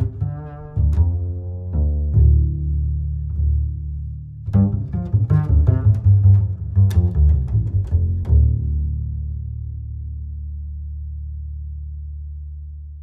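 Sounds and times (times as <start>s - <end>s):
low bass note: 0.0s - 13.0s.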